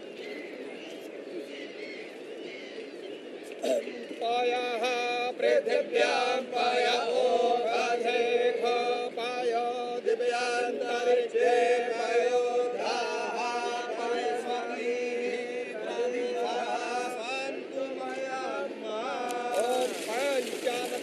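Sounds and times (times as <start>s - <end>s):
mantras chanted: 3.6s - 21.0s.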